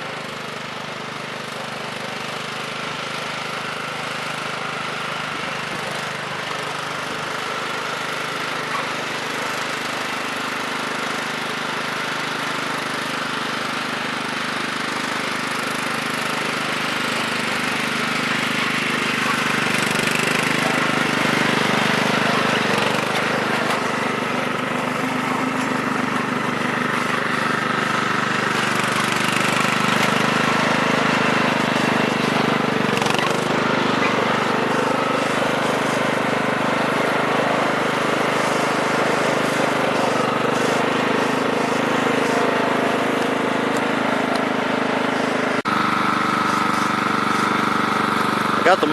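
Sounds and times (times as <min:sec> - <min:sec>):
riding mower engine running: 0:00.0 - 0:48.9.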